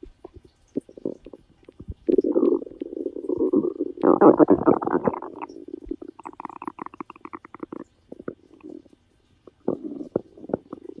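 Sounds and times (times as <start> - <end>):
stomach growling: 0.0 - 11.0.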